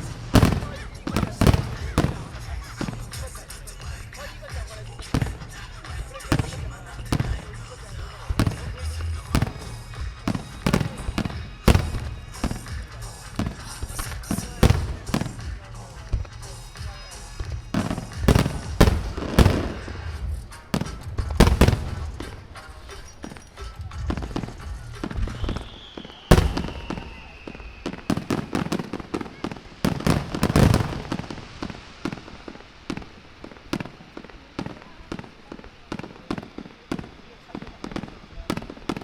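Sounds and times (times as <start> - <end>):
falling firework whistle: 0.0 - 39.0
firework crackling bursts: 0.0 - 39.0
fireworks booming: 0.0 - 39.0.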